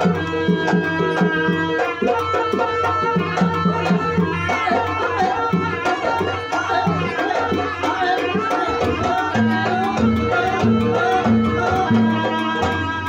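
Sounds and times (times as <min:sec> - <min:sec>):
hand drums: 0:00.0 - 0:13.0.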